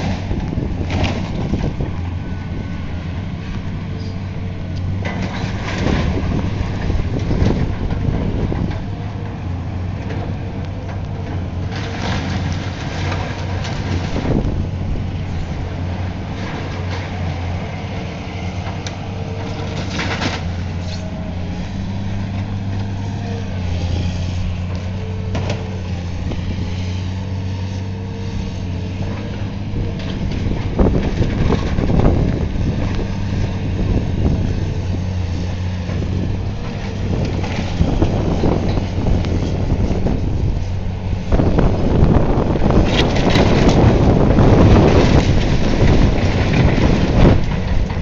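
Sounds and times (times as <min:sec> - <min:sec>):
debris crunching and crashing: 0:00.0 - 0:48.0
heavy machine engine running: 0:00.0 - 0:48.0.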